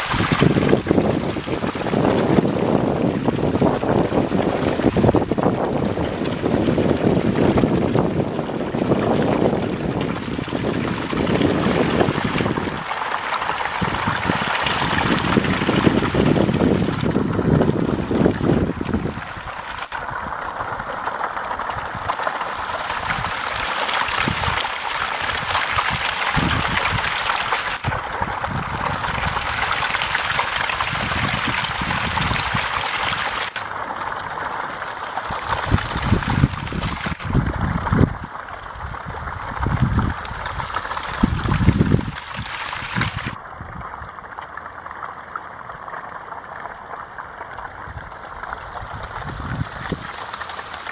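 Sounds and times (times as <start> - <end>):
fish splashing in water: 0.0 - 50.9.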